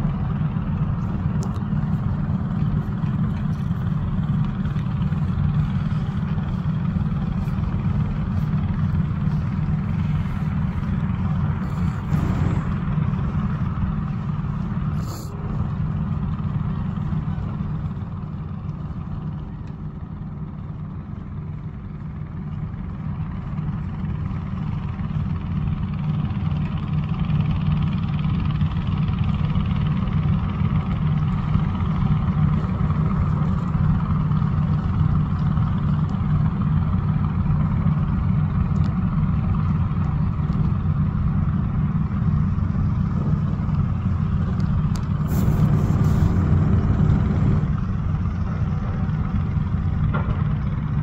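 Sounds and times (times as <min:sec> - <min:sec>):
low engine rumble: 0:00.0 - 0:51.0.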